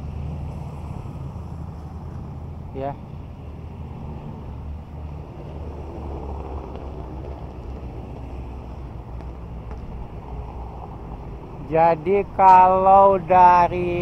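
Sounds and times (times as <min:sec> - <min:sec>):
construction machinery engine hum: 0:00.0 - 0:14.0
wind rumbling on microphone: 0:00.0 - 0:14.0.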